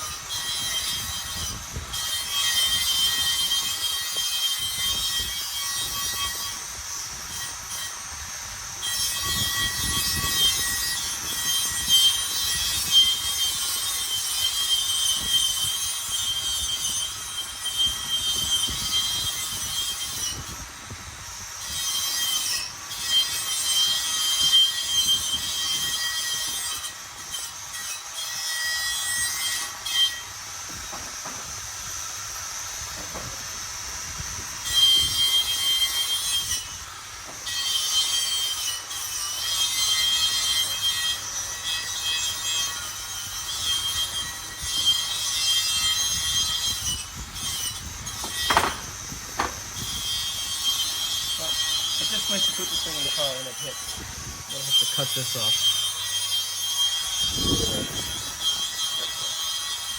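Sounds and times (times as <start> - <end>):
power tool cutting with high whine: 0.0 - 59.9.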